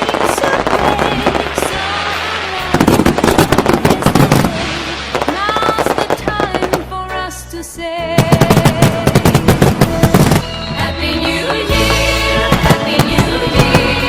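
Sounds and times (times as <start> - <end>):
fireworks and firecrackers popping: 0.0 - 7.1, 8.2 - 10.6, 11.4 - 14.0.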